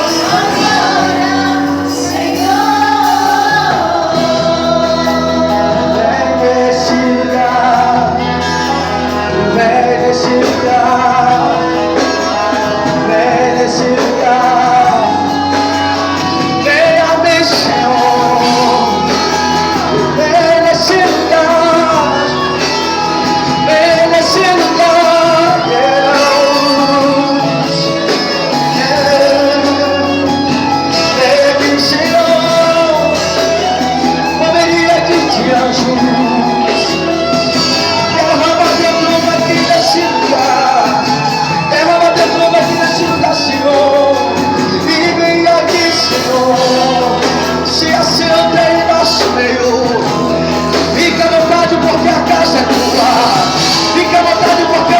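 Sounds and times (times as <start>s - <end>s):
instrumental accompaniment: 0.0s - 54.9s
voices singing a worship song: 0.0s - 54.9s.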